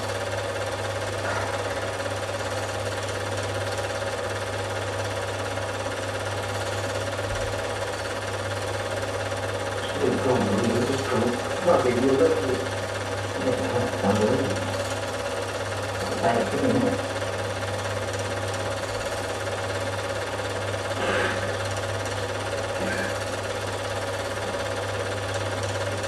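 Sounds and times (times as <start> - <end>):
film projector whirring: 0.0 - 26.0.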